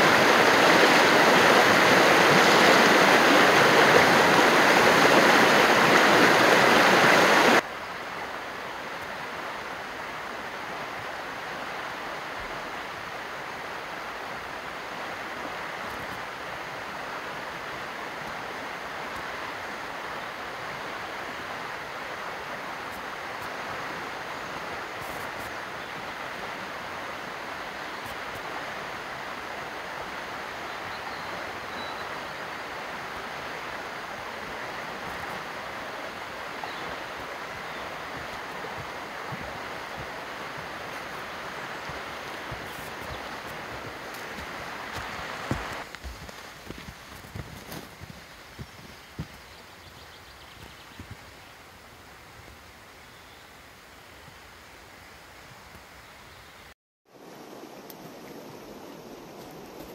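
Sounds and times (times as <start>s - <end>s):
river water rushing: 0.0s - 56.2s, 57.1s - 59.9s.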